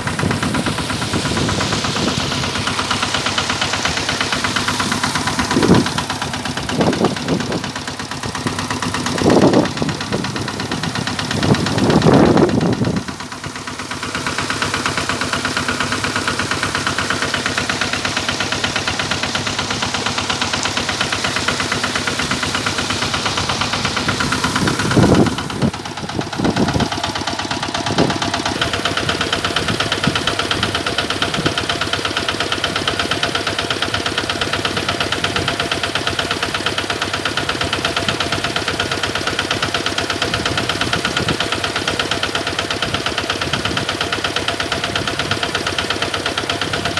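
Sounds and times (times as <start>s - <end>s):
engine chugging: 0.0s - 46.9s
water pump rushes: 0.0s - 46.9s.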